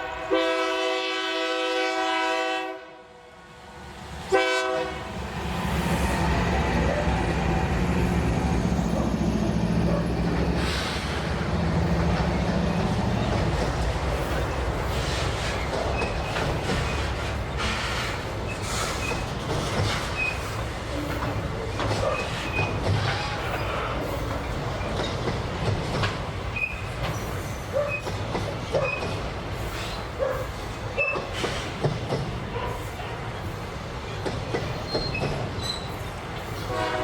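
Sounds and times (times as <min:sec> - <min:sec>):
train wheels clattering over rail joints: 0:06.6 - 0:37.0.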